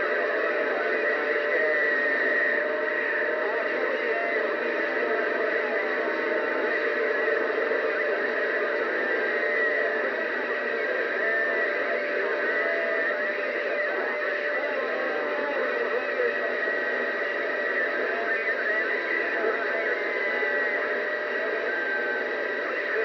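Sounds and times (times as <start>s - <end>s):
radio static: 0.0s - 23.0s
wavering radio tones: 0.0s - 23.0s.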